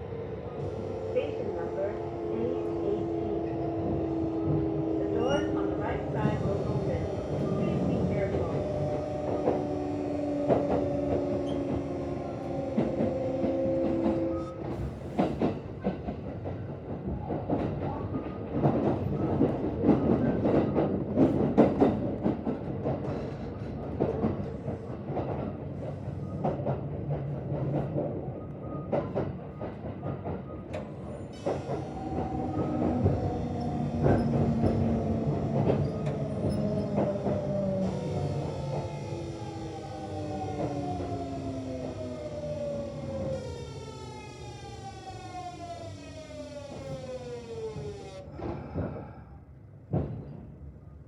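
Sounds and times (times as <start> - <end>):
train wheels rattling on rails: 0.6 - 50.9.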